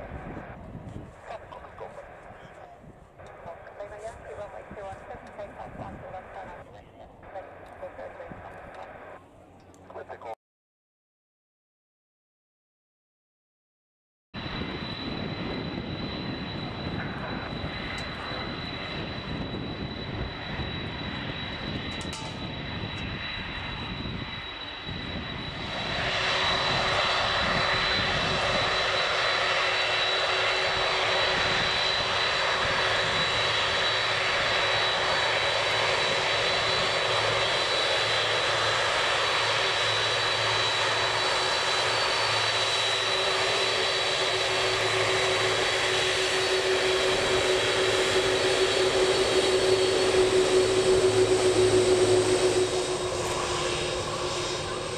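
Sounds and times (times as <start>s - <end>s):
jet engines high whine: 0.0s - 10.3s, 14.4s - 54.9s.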